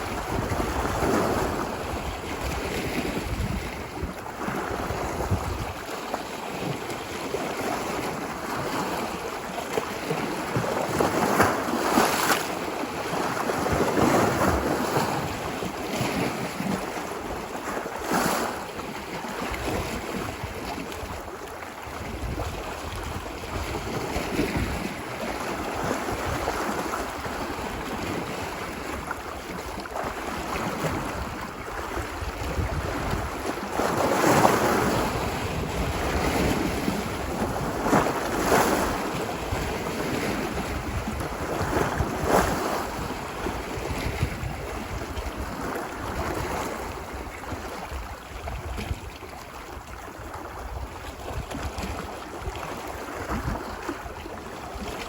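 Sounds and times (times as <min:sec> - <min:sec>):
ocean waves washing ashore: 0:00.0 - 0:55.0
wind rumbling on microphone: 0:00.0 - 0:55.0.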